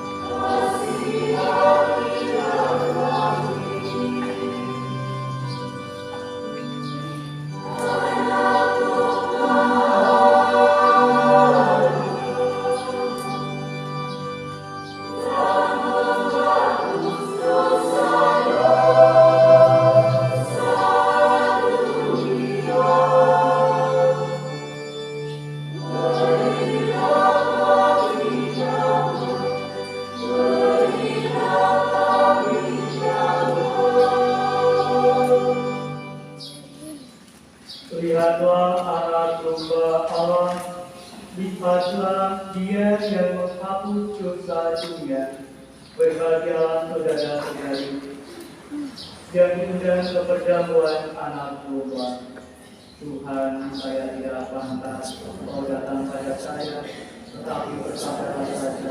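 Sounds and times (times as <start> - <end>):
choir singing a hymn: 0.0 - 36.5, 37.9 - 45.1, 45.8 - 58.9
low organ notes: 0.0 - 58.9.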